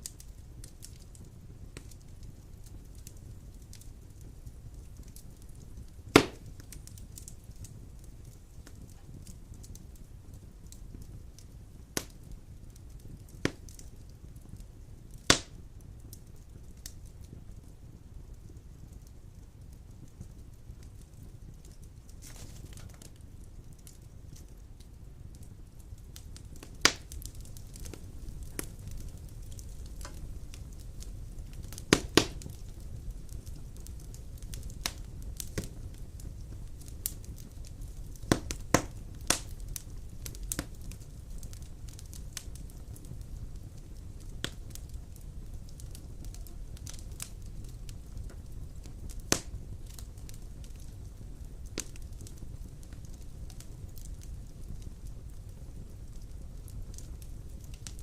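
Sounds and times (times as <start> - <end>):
sharp pops of fire: 0.0 - 58.0
wood fire crackling: 0.0 - 58.0.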